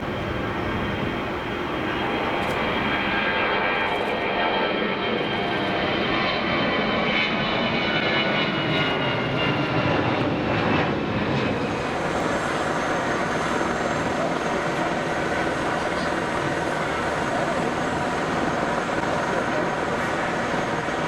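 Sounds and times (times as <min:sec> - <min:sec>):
jet engines at take-off: 0:00.0 - 0:21.0.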